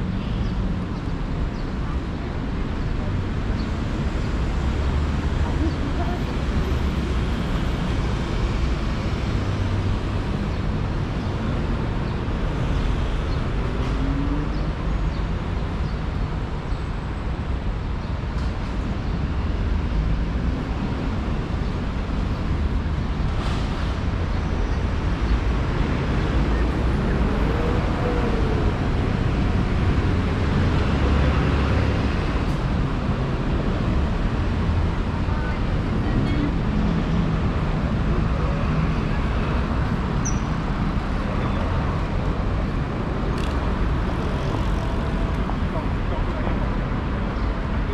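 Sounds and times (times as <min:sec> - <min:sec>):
city road traffic: 0:00.0 - 0:47.9.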